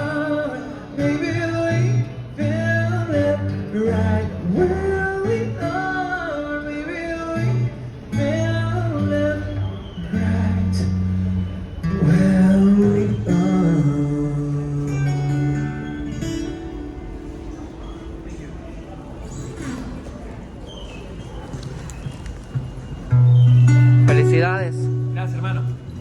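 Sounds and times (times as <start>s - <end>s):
acoustic guitar: 0.0s - 20.9s, 21.6s - 26.0s.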